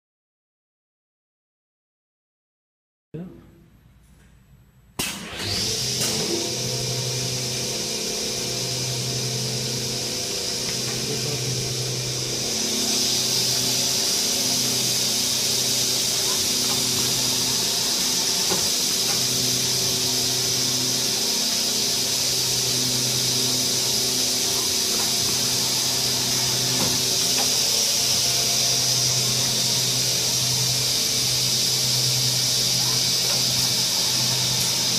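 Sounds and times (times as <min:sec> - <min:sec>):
machine motors hissing: 0:05.1 - 0:34.9
low motor hum: 0:05.5 - 0:34.9.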